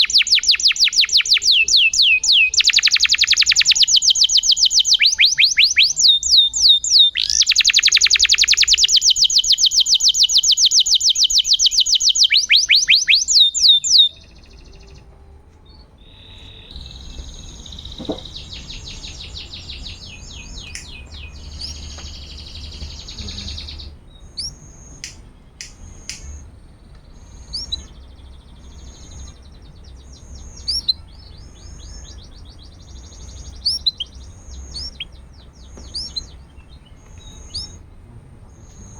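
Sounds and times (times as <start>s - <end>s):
canary singing trills: 0.0s - 38.9s
twittering trills and chirps: 0.0s - 38.9s.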